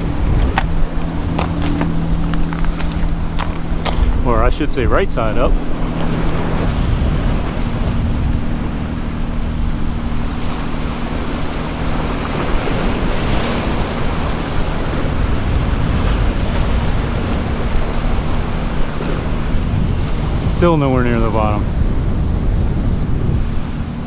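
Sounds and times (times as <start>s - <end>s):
surf breaking over boulders: 0.0s - 23.7s
big wave crashing: 0.0s - 24.0s
wind buffeting microphone: 0.0s - 24.0s.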